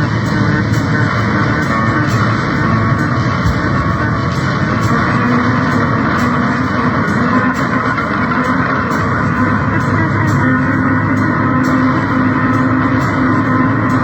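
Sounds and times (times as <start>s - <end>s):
faint regular pulse: 0.0s - 14.0s
harsh distorted noise music: 0.0s - 14.0s.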